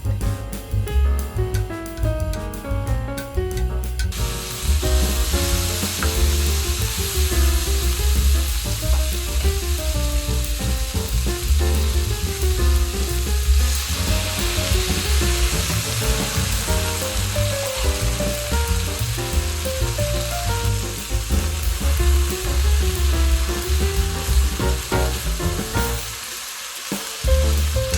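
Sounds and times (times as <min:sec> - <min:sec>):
background music with strong bass: 0:00.0 - 0:26.2, 0:27.3 - 0:27.9
stir fry sizzling in a pan: 0:04.0 - 0:27.9.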